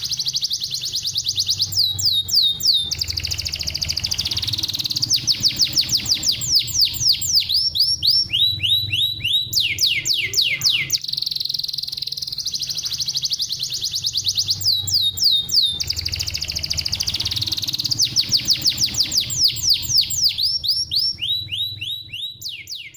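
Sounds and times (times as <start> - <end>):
canary singing: 0.0 - 22.9.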